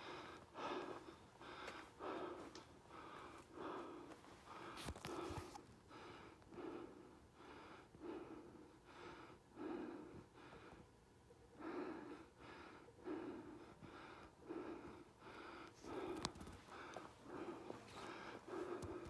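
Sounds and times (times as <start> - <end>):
heavy rhythmic breathing: 0.0 - 19.0.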